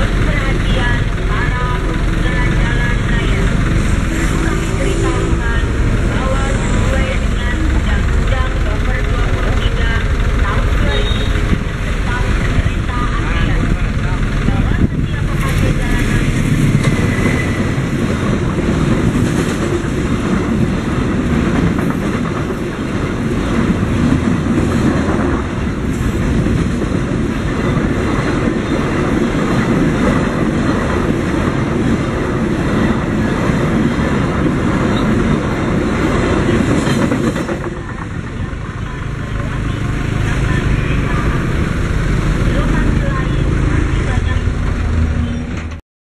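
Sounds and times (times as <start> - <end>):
train wheels clattering over rails: 0.0 - 45.8.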